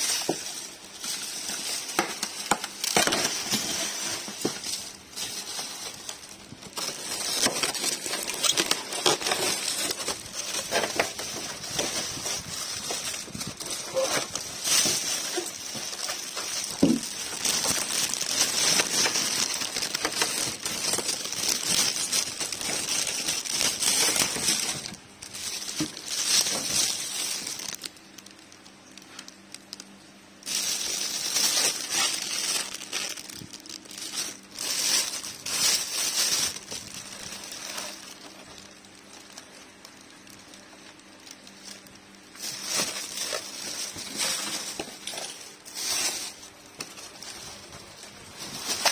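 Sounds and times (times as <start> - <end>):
plastic bag crinkling: 0.0 - 48.9.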